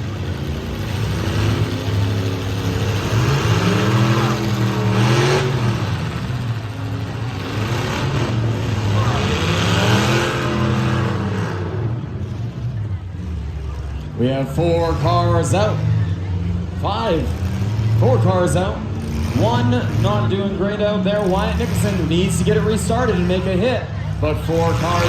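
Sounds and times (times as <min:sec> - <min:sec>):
car engines revving hard: 0:00.0 - 0:25.0
low engine hum: 0:00.0 - 0:25.0.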